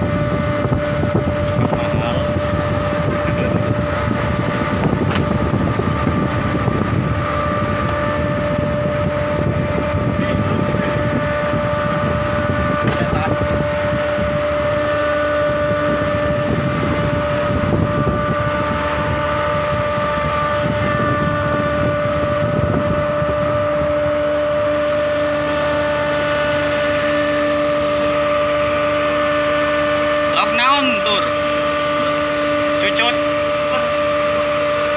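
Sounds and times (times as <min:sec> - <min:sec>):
boat engine humming: 0:00.0 - 0:34.9.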